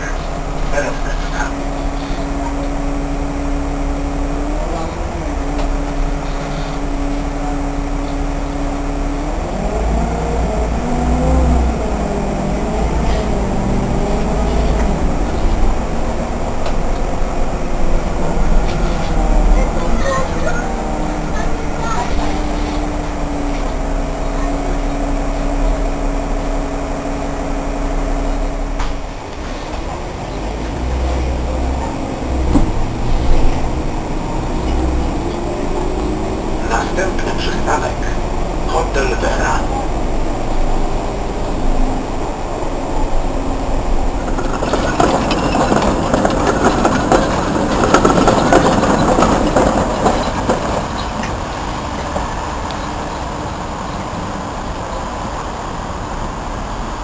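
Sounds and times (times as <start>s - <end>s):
bus cabin rumble: 0.0s - 57.0s.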